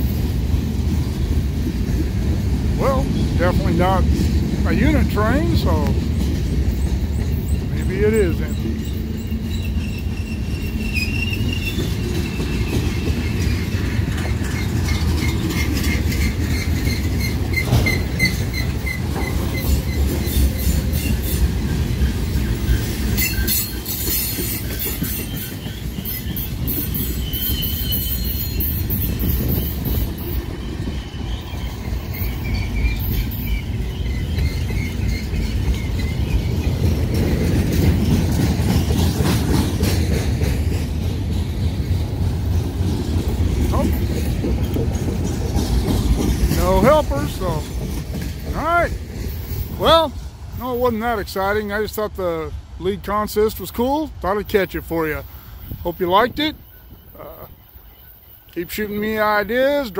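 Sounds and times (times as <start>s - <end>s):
train wheels squealing: 0.0s - 0.6s, 4.8s - 51.2s, 54.6s - 59.9s
freight train cars rumbling past: 0.0s - 59.9s
rail clicks: 0.0s - 59.9s.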